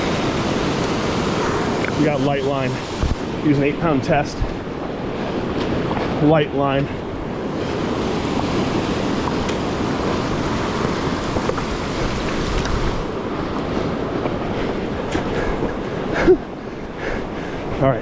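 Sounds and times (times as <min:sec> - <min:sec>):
river rushing through rapids: 0:00.0 - 0:16.9.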